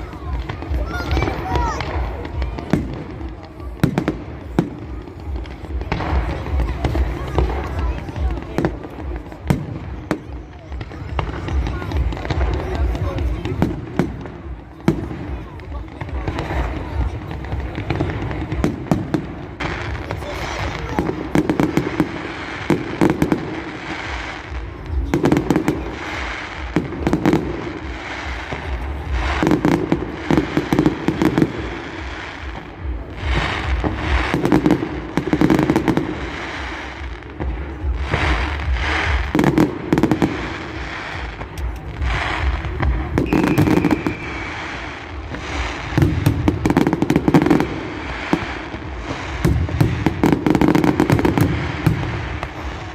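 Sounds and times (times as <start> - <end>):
fireworks bursting with bangs: 0.0 - 52.9
fireworks crackling: 0.0 - 52.9.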